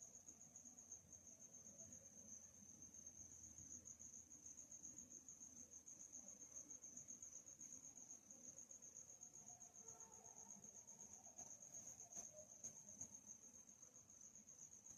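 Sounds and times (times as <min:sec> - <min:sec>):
crickets chirping: 0:00.0 - 0:14.9.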